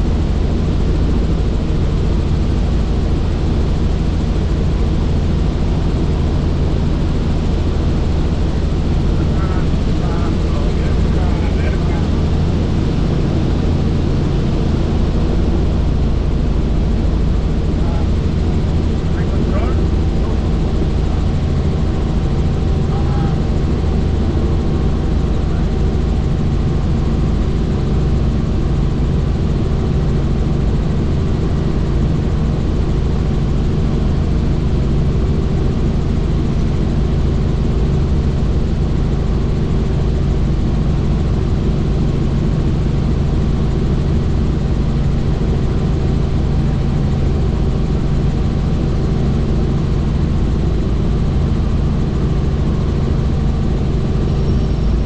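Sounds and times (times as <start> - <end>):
helicopter rotor and engine drone: 0.0 - 55.0
low hum of held tones: 0.0 - 55.0.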